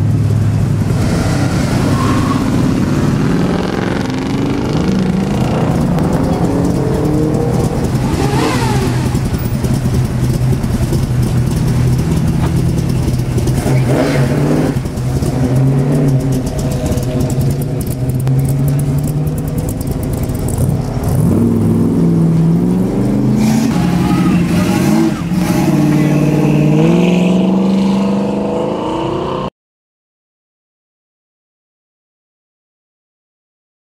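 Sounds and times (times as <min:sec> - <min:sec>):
car engine accelerating: 0:00.0 - 0:29.5.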